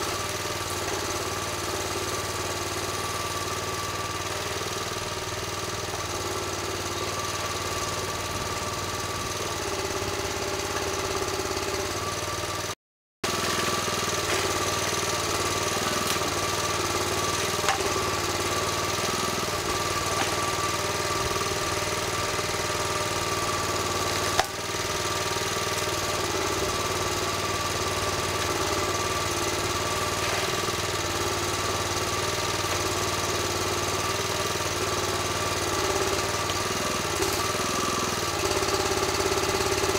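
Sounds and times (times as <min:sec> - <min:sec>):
forestry machine engine running: 0:00.0 - 0:39.9.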